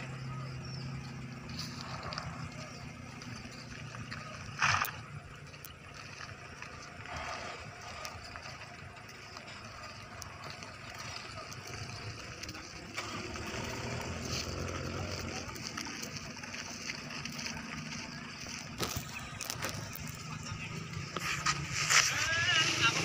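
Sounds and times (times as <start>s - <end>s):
diesel truck engines droning: 0.0s - 23.0s.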